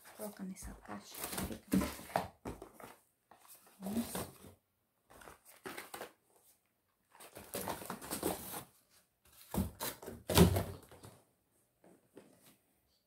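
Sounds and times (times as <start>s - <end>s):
boxes and packaging rustling: 0.0s - 11.3s.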